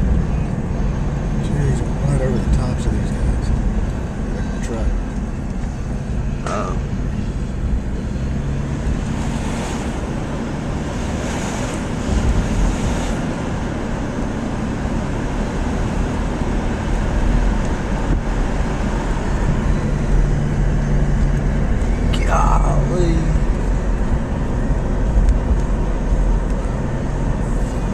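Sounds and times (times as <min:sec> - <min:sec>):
engine humming: 0:00.0 - 0:27.9.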